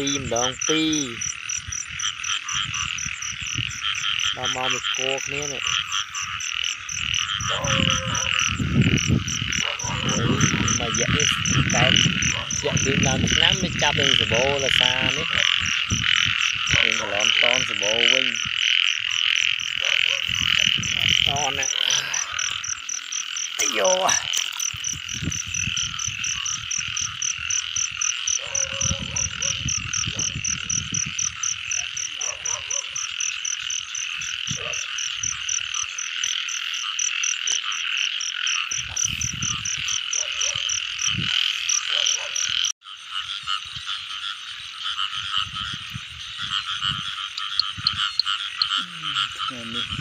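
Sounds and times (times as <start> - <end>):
frogs calling: 0.0 - 50.0.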